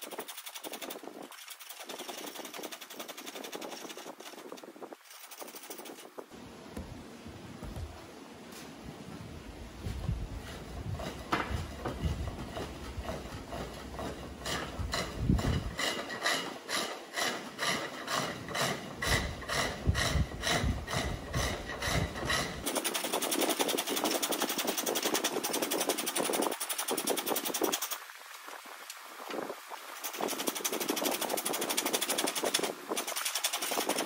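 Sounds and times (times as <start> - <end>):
chisel scraping wood on lathe: 0.0 - 6.1, 10.4 - 28.0, 30.0 - 34.0.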